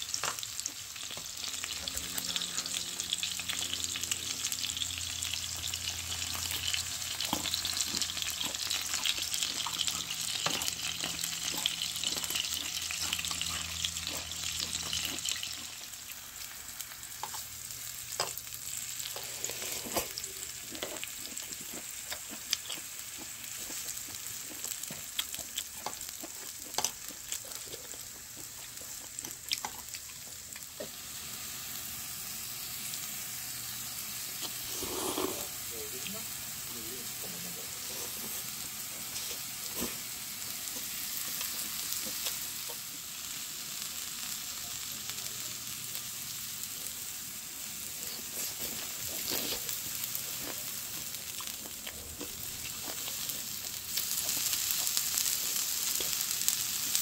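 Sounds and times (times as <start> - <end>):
meat sizzling on grill pan: 0.0 - 57.0.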